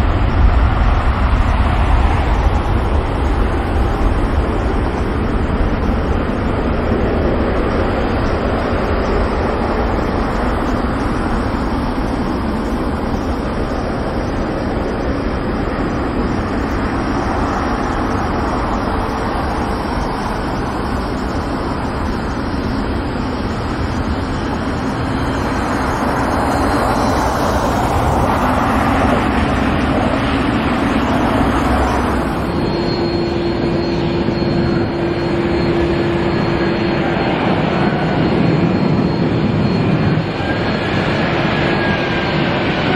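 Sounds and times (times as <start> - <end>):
jet engine humming: 0.0 - 42.9
jet engines rushing: 0.0 - 42.9.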